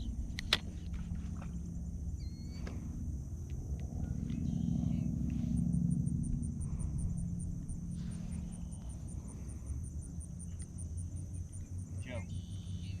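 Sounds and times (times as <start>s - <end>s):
insects chirping: 0.0s - 13.0s
low hum: 0.0s - 13.0s.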